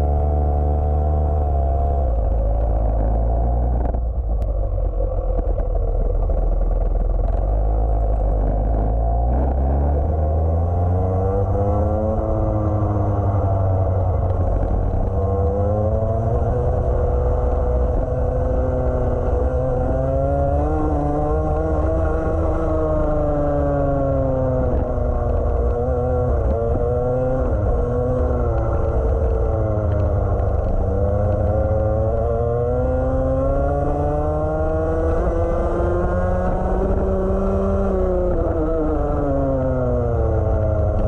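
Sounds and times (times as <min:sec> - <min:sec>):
kart engine revving: 0:05.8 - 0:41.0.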